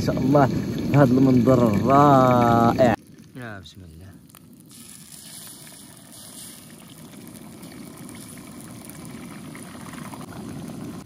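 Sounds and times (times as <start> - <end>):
eggs poured into oil: 0.0 - 11.0
eggs sizzling in hot oil: 0.0 - 11.0.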